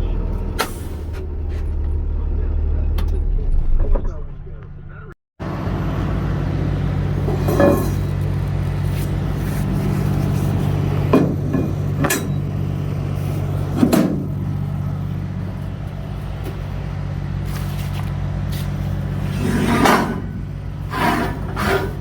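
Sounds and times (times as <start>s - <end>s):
clunks and rattles: 0.0s - 5.1s, 6.4s - 22.0s
diesel truck engine droning: 0.0s - 22.0s.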